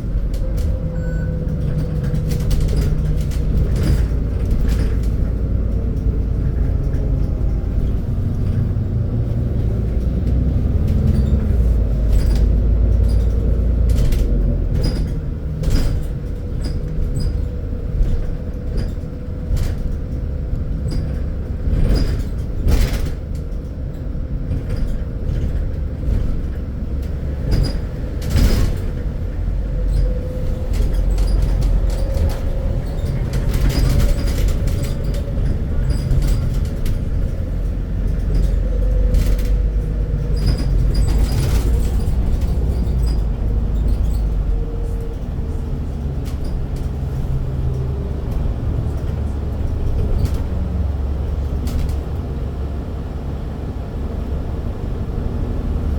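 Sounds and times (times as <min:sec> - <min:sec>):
bus engine rumble: 0:00.0 - 0:55.9
sharp knocks and rattles: 0:00.3 - 0:52.2.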